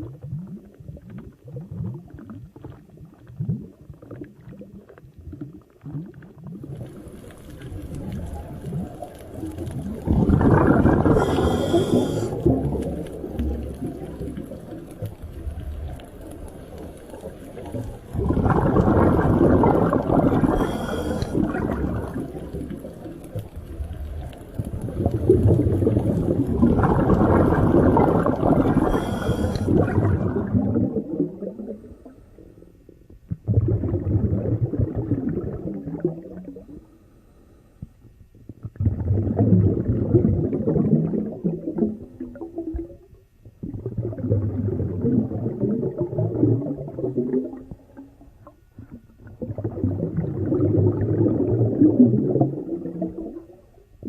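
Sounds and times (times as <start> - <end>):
underwater rumbling and gurgling: 0.0 - 54.0.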